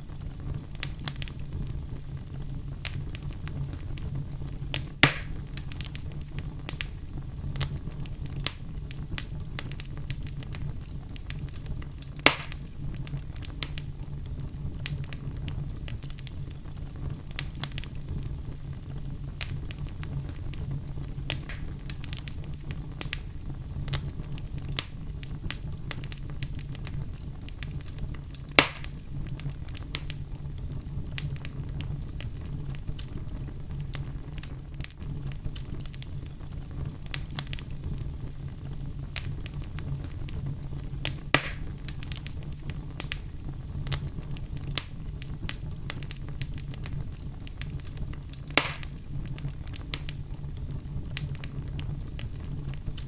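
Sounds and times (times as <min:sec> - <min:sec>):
loud fire snap: 0:00.0 - 0:53.0
low rumble of flames: 0:00.0 - 0:53.0
wood fire crackling: 0:00.0 - 0:53.0.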